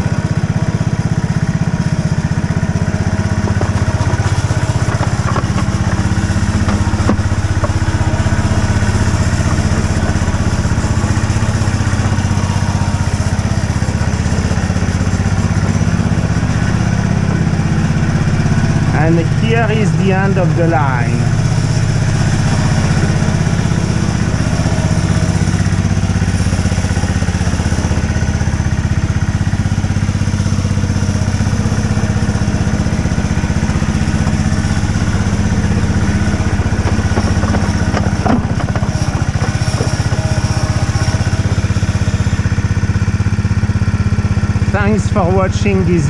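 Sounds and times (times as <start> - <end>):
miniature locomotive engine running: 0.0 - 46.0.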